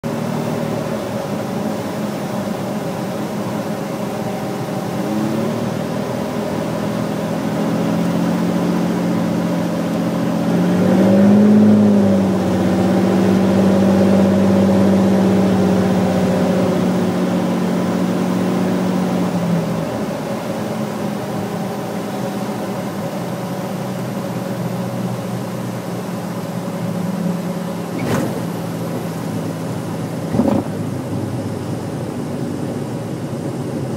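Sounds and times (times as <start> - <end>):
propeller plane engine droning: 0.0 - 33.9.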